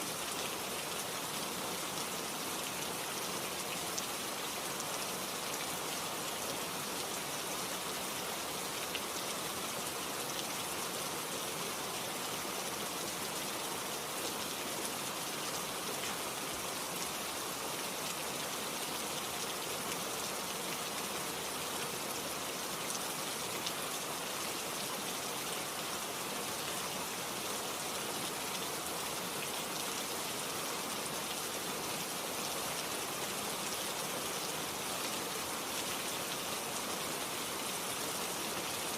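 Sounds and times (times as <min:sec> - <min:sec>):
rain patters on a surface: 0:00.0 - 0:38.9.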